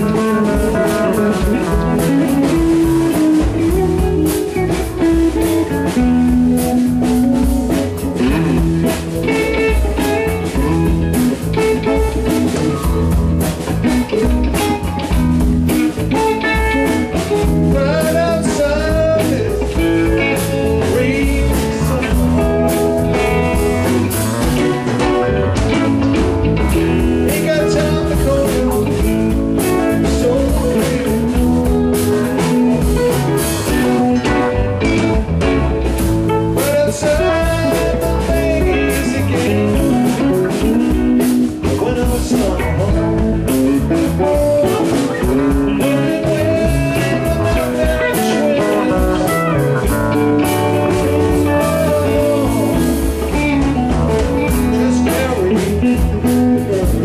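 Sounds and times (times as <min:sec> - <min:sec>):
electric guitar: 0:00.0 - 0:57.0
live rock band playing blues: 0:00.0 - 0:57.0
steady drum beat: 0:00.0 - 0:57.0.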